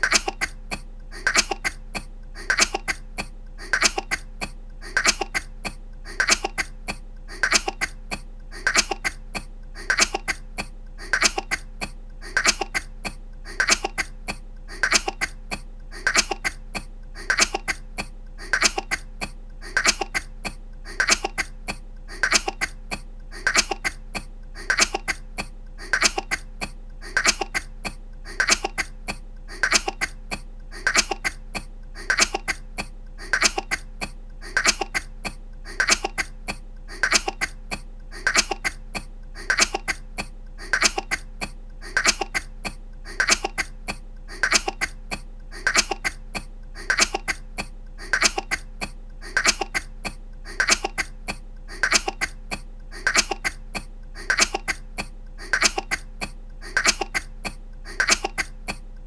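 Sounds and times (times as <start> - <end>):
woman coughing: 0.0 - 58.8.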